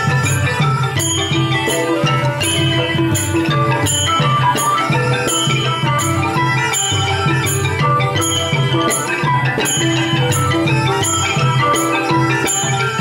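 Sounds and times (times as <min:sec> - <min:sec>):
drums: 0:00.0 - 0:13.0
xylophone melody: 0:00.0 - 0:13.0.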